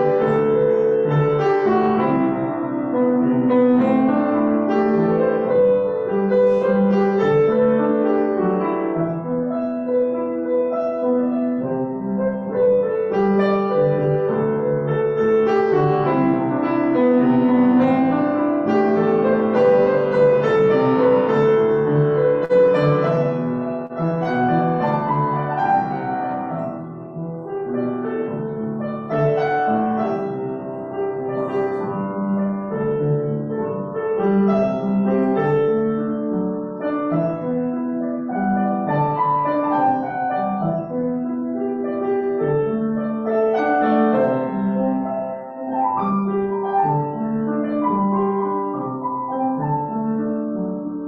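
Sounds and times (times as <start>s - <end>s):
solo piano music: 0.0s - 51.0s.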